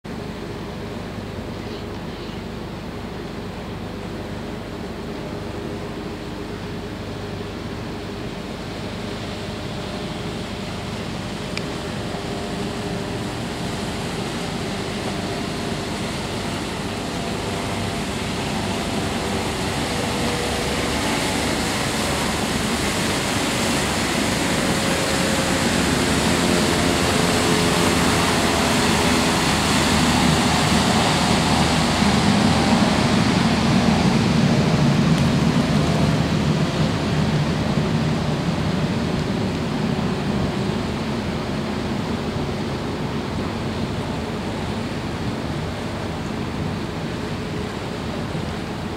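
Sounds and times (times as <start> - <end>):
wind: 0.0 - 48.9
boat engine hum: 0.1 - 48.9
boat wake churning water: 0.1 - 48.9.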